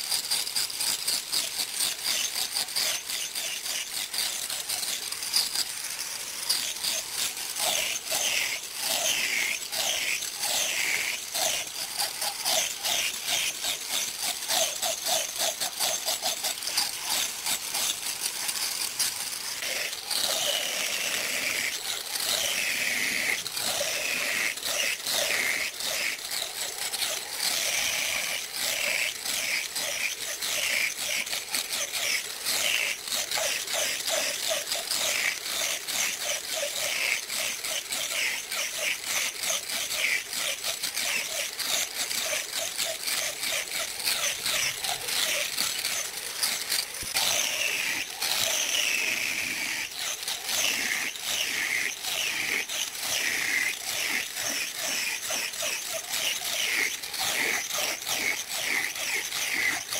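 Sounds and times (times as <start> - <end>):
angle grinder grinding wood: 0.0 - 59.9.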